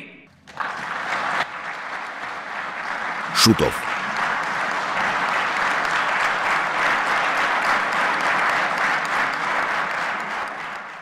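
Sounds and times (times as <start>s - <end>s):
crowd applauding: 0.4s - 11.0s.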